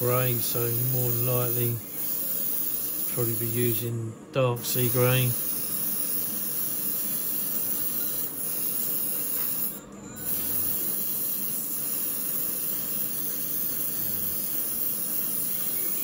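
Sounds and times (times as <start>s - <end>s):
airbrush hissing: 0.0s - 4.0s, 4.6s - 16.0s.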